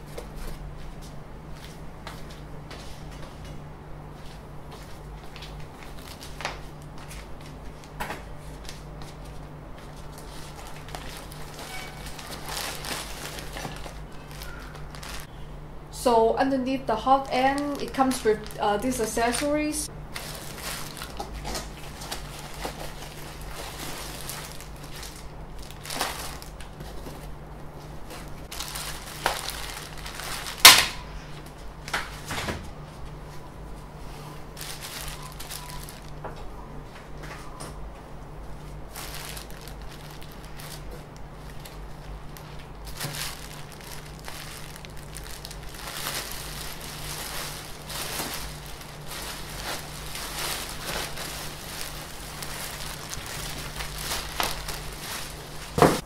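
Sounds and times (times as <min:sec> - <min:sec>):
steady low hum: 0:00.0 - 0:56.0
bubble wrap rustling: 0:04.2 - 0:15.4, 0:16.8 - 0:36.3, 0:38.4 - 0:56.0.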